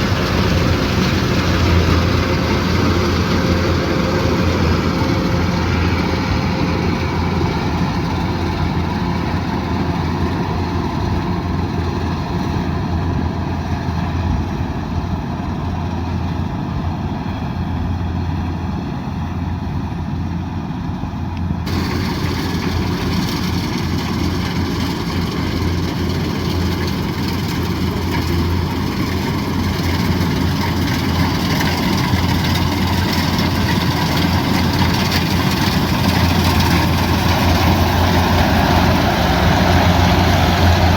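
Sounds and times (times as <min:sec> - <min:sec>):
combine harvester diesel engine: 0:00.0 - 0:40.9.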